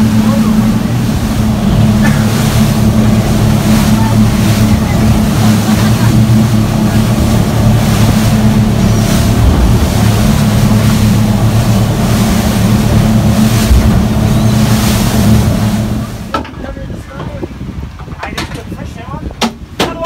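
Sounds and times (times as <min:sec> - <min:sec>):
boat engine drone: 0:00.0 - 0:17.8
rushing wake and spray: 0:00.0 - 0:20.0
wind on microphone: 0:00.0 - 0:20.0.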